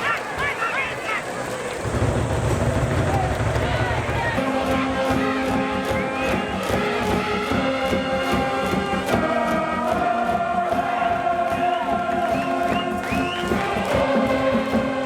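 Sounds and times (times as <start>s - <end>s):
crowd chanting: 0.0s - 15.0s
drum beat: 1.8s - 15.0s
brass band playing: 1.9s - 15.0s.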